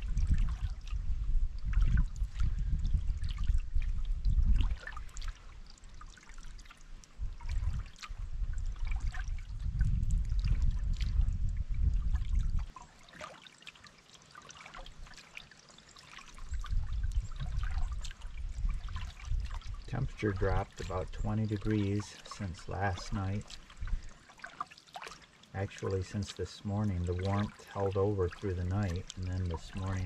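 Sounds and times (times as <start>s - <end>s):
wind rumble on microphone: 0.0s - 12.8s, 16.3s - 24.2s, 25.6s - 30.0s
water dripping off paddle: 0.0s - 30.0s
water splashing on canoe hull: 0.0s - 30.0s.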